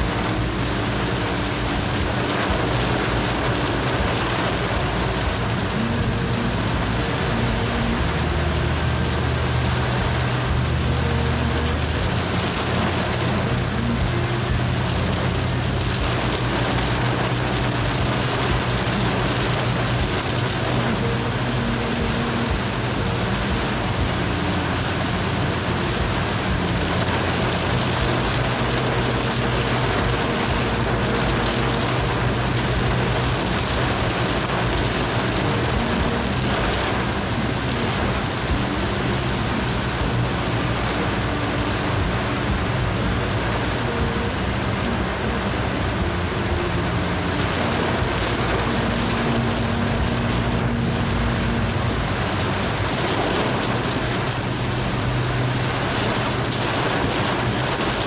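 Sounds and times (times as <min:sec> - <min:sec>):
engine and road hum: 0:00.0 - 0:58.0
heavy rain on car windshield: 0:00.0 - 0:58.0.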